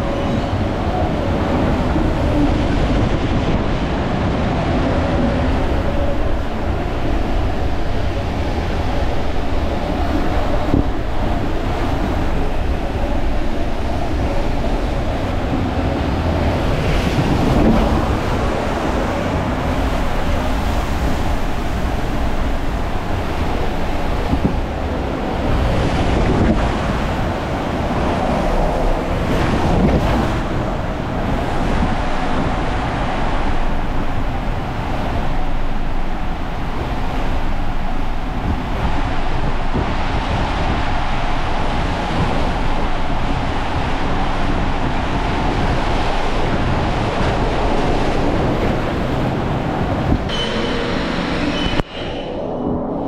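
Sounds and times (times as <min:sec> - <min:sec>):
water rushing: 0:00.0 - 0:53.0
wind buffeting microphone: 0:00.0 - 0:53.0.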